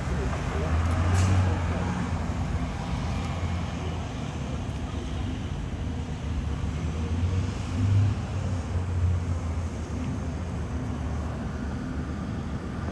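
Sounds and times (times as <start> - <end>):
vehicle engines and road noise: 0.0 - 12.9.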